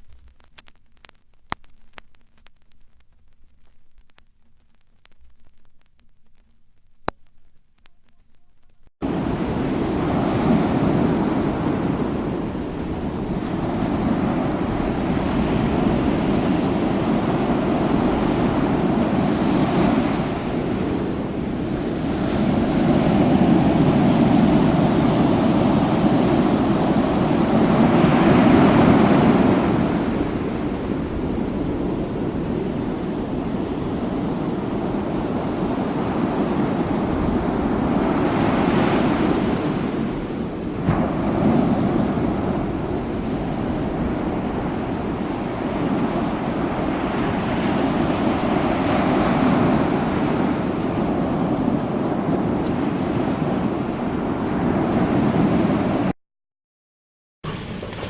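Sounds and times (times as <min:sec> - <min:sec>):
ocean waves breaking: 0:09.0 - 0:56.1.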